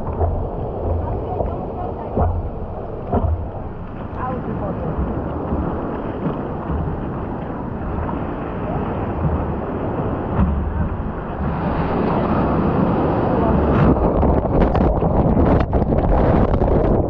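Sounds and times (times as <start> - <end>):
ocean surf sloshing: 0.0 - 17.0
wind buffeting microphone: 0.0 - 17.0.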